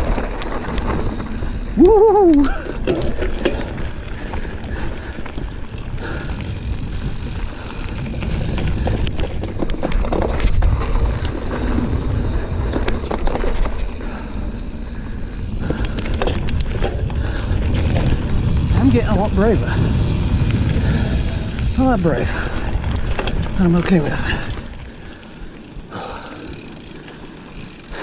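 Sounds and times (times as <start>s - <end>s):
wind rumble on microphone: 0.0s - 26.0s
bike clicks and rattles: 0.0s - 28.0s
tyre noise on dirt: 0.0s - 28.0s.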